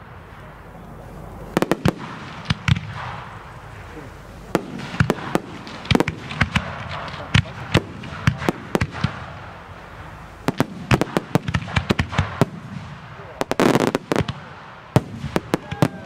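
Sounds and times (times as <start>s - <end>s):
fireworks bursting with sharp bangs: 0.0s - 16.0s.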